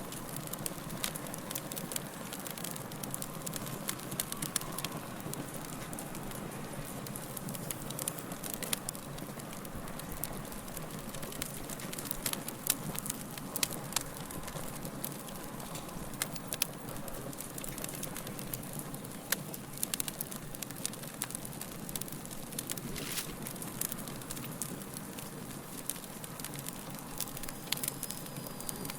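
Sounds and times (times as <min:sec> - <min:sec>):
fire crackling: 0:00.0 - 0:28.9.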